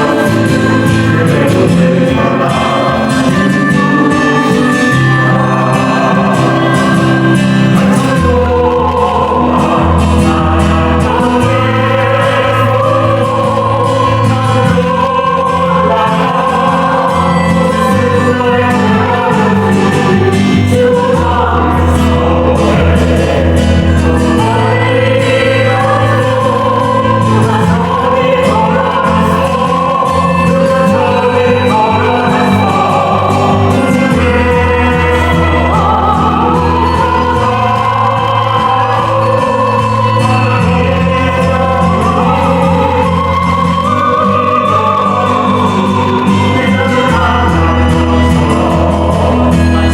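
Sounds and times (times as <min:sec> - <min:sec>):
choir singing in harmony: 0:00.0 - 0:49.9
sustained bass accompaniment: 0:00.0 - 0:49.9.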